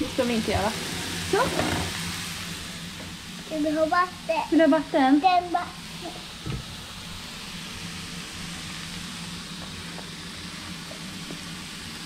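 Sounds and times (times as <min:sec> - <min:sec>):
mushrooms sizzling in a pan: 0:00.0 - 0:12.0.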